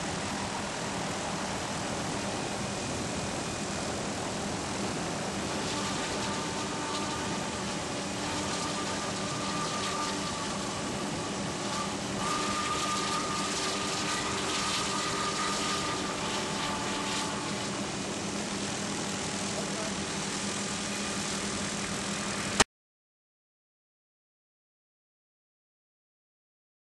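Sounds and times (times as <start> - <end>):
aircraft engine drone: 0.0 - 22.6
high whine: 0.0 - 22.6.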